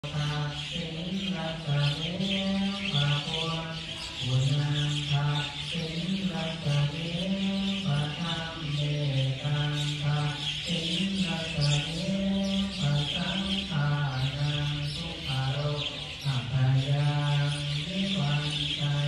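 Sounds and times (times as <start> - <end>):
low voices chanting: 0.0 - 19.0
small birds chirping: 0.0 - 19.0.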